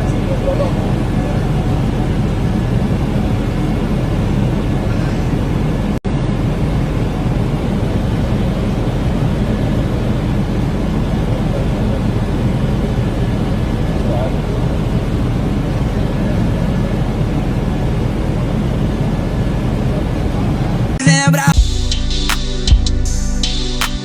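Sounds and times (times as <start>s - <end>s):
helicopter rotor drone in cabin: 0.0s - 20.7s.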